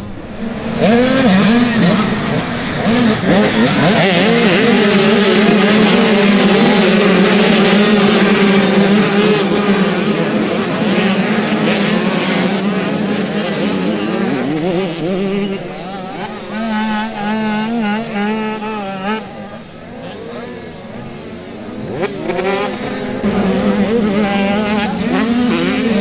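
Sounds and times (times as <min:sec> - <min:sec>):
motocross bikes revving: 0:00.0 - 0:26.0.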